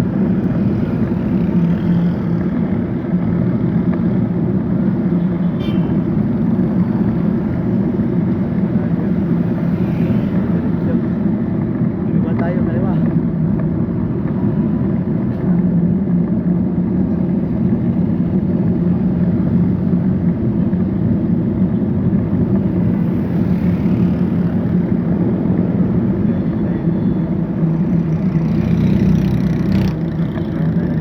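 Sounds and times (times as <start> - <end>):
traffic engines rumbling: 0.0 - 31.0.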